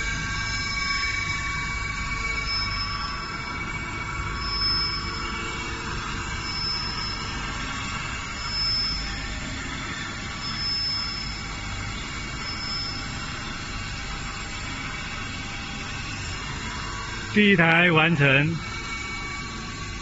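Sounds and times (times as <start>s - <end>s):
grinding machine running: 0.0s - 20.0s
high-pitched grinder whine: 0.0s - 20.0s.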